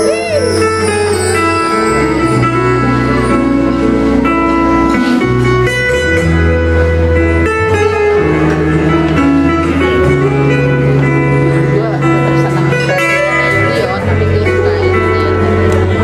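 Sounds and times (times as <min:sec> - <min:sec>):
acoustic guitars: 0:00.0 - 0:16.0
low bass line: 0:00.0 - 0:16.0.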